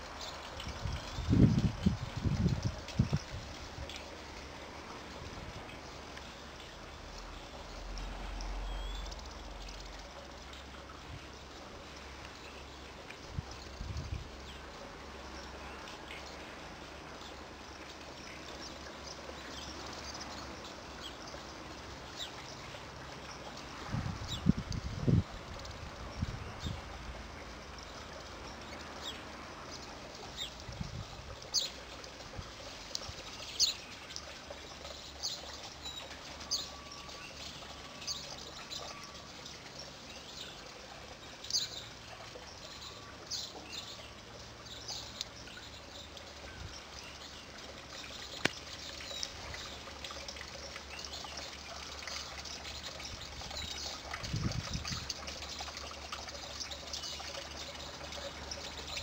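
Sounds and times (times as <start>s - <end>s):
songbirds chirping: 0.0s - 59.0s
steady background hiss: 0.0s - 59.0s.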